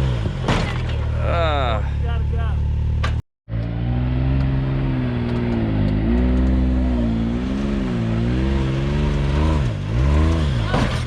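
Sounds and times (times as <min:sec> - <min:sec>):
utility vehicle engine revving: 0:00.0 - 0:11.0.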